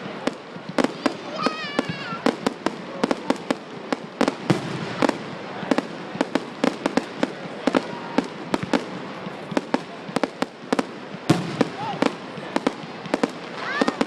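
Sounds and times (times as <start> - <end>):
crackling hiss: 0.0 - 14.0
fireworks bangs: 0.0 - 14.0.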